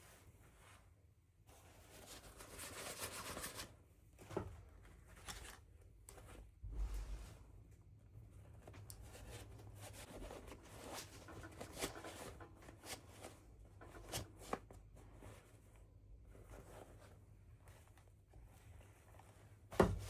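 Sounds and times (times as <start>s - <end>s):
soft rustling and scraping: 0.0s - 20.0s.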